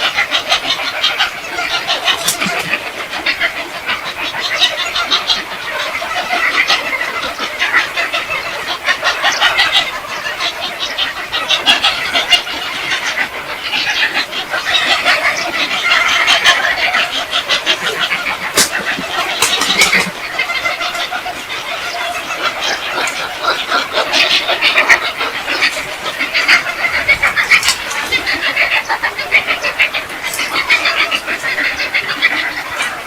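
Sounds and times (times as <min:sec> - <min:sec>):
birds chattering and squawking: 0:00.0 - 0:33.0.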